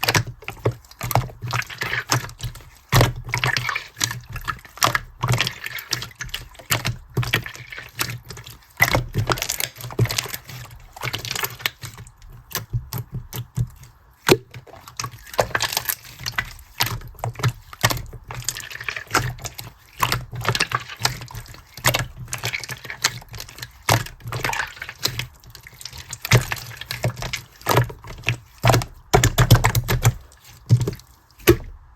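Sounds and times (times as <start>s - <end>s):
hands squishing slime: 0.0s - 31.9s.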